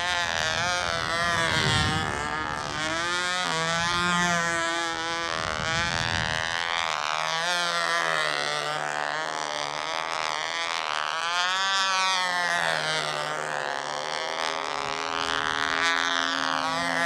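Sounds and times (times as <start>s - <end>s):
model airplane engine: 0.0s - 17.0s.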